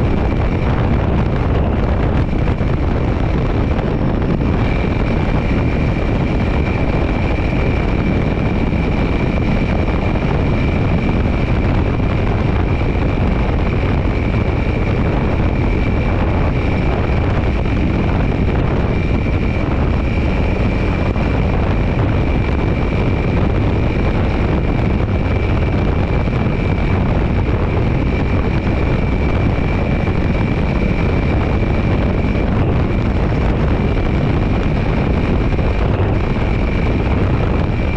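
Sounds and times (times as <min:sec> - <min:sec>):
wind noise on microphone: 0:00.0 - 0:37.9.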